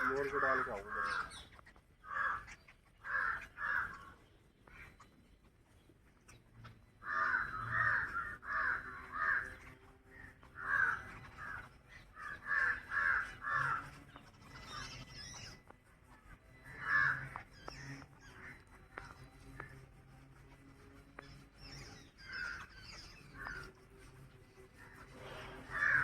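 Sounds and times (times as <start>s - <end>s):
crows cawing: 0.0s - 5.4s, 6.6s - 15.7s, 16.4s - 20.6s, 21.2s - 26.0s
high bird calls: 0.0s - 26.0s.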